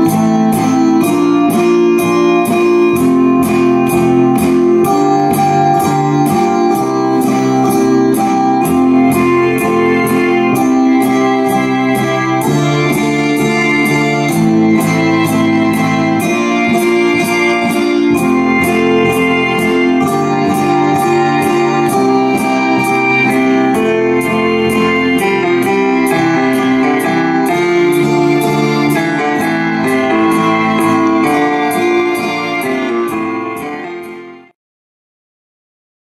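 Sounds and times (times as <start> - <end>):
steady ticking beat: 0.0 - 34.4
electronic ensemble music: 0.0 - 34.5.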